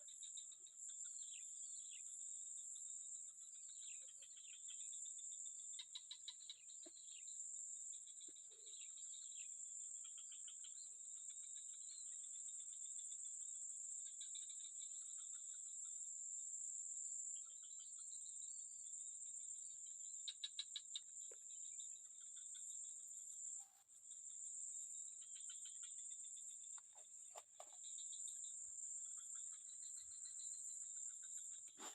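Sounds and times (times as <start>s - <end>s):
insects chirping and trilling: 0.0s - 31.9s.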